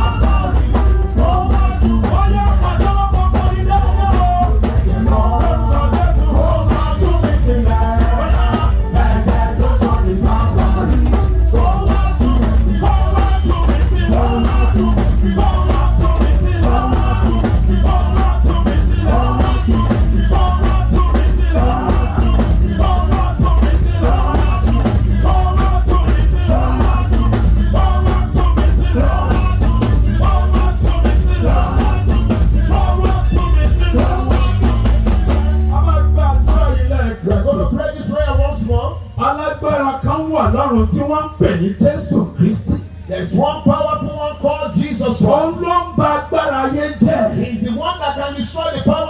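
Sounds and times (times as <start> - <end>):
church band playing gospel: 0.0 - 49.0
voices singing: 0.0 - 49.0.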